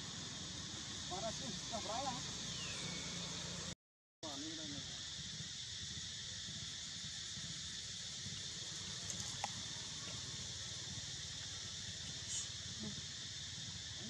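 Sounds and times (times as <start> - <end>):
insects droning in trees: 0.0 - 14.0.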